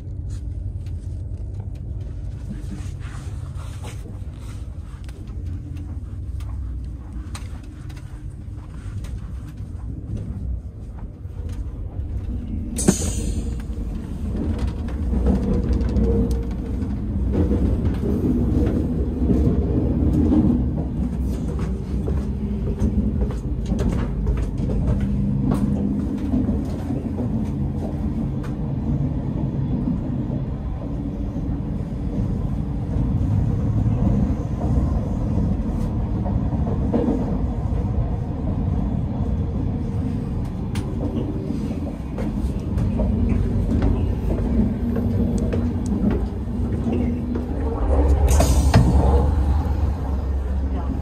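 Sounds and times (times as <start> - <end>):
train running rumble from inside: 0.0 - 51.0.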